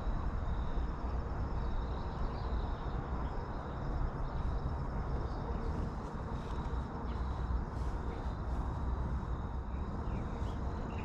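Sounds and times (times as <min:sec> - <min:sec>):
insects chirring: 0:00.0 - 0:11.0
wind rumbling on microphone: 0:00.0 - 0:11.0.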